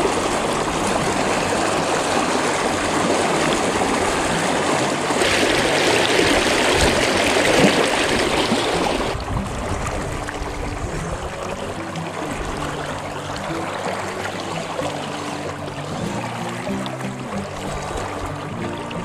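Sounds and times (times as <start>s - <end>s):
river water rushing and splashing: 0.0s - 19.0s.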